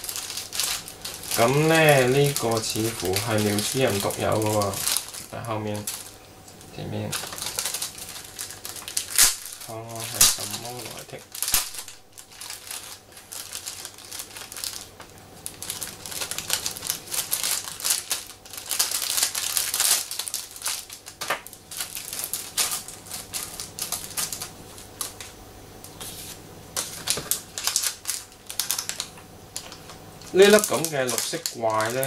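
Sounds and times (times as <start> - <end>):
plastic wrapper crinkling: 0.0 - 32.0.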